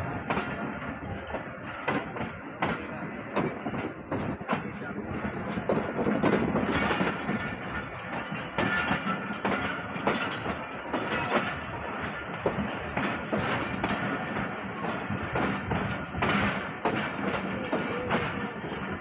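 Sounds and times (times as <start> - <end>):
train wheels rumbling on rails: 0.0 - 19.0
wheels clacking over rail joints: 0.0 - 19.0.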